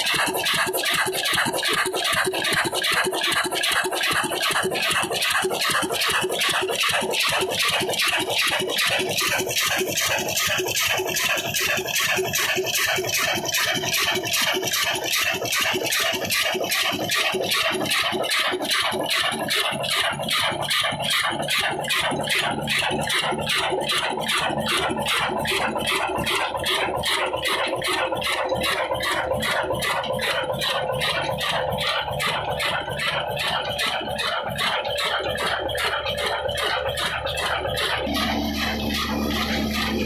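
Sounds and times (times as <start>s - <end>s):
diesel engine clattering: 0.0s - 40.0s.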